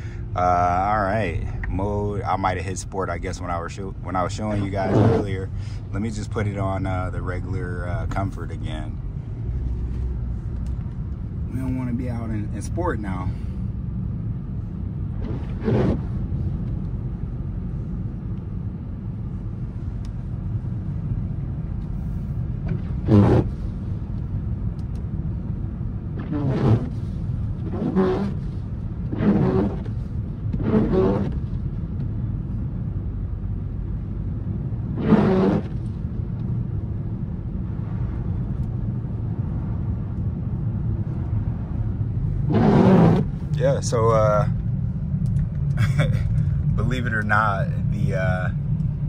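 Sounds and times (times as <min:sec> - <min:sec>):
car driving on snowy road: 0:00.0 - 0:49.0.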